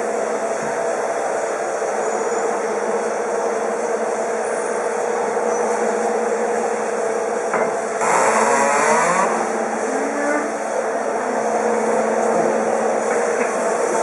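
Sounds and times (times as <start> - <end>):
freezer motor hum: 0.0 - 14.0
wavering whine: 0.0 - 14.0.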